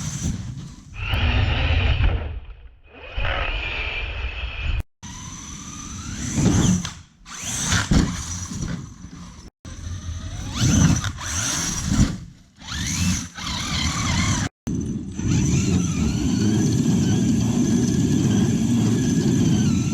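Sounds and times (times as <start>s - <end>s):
electric rc truck motor whine: 0.0s - 19.9s.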